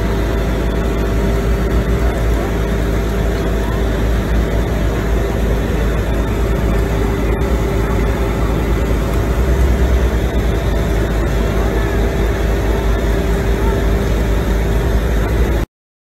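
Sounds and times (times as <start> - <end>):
truck engine running: 0.0 - 15.7.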